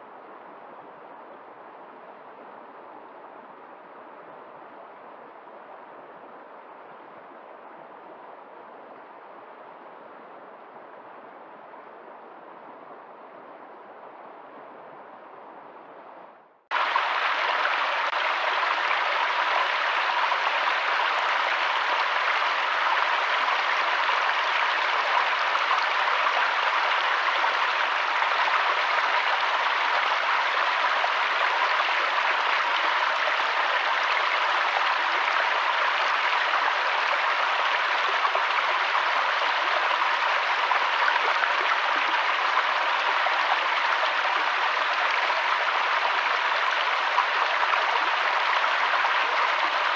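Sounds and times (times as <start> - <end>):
rushing water: 0.0 - 49.9.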